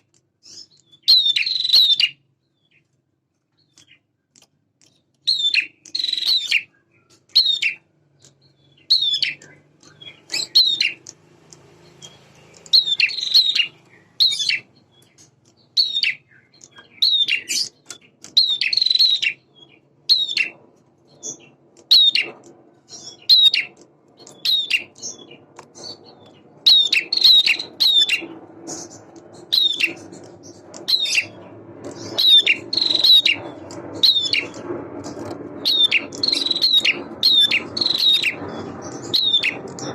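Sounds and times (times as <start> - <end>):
bird sharp high chirps: 0.0 - 39.9.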